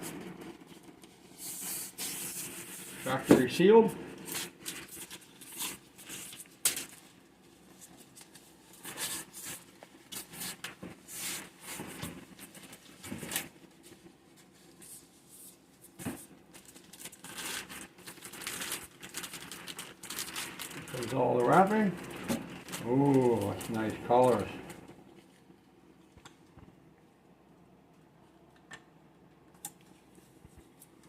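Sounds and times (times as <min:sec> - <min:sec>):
plastic wrapping tearing and crinkling: 0:00.0 - 0:25.5.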